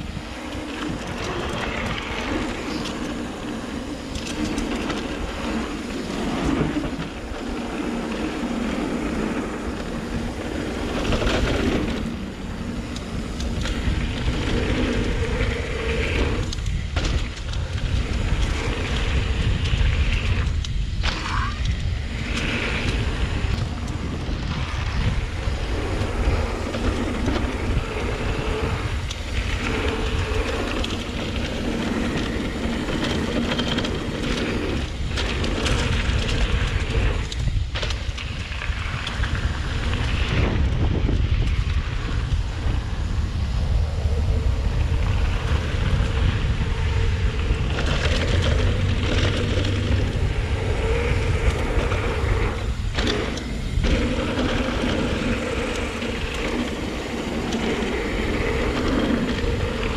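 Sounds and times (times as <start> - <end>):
bike tyre noise and rattle: 0.0 - 59.9
wind rushing over microphone: 0.0 - 59.9.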